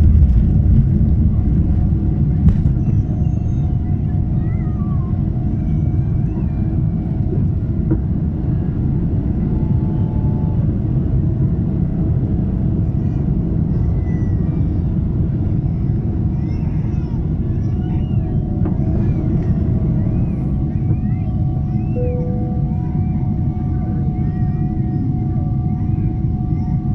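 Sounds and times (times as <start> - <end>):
jet engine deep rumble in cabin: 0.0 - 26.9.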